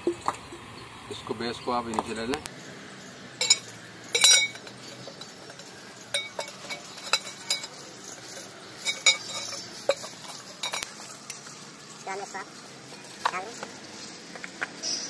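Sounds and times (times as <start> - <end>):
metallic clinks and knocks: 2.5 - 14.8.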